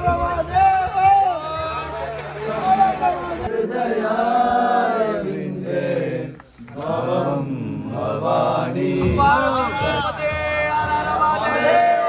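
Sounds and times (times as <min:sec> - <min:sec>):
voices chanting: 0:00.0 - 0:12.0.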